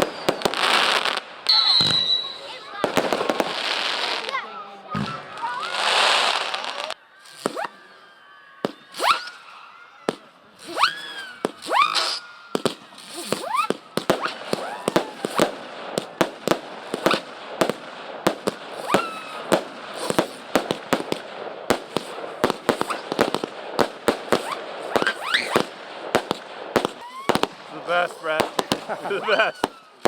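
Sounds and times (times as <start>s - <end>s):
fireworks bangs and crackles: 0.0s - 30.0s
rising firework whistles: 0.0s - 30.0s.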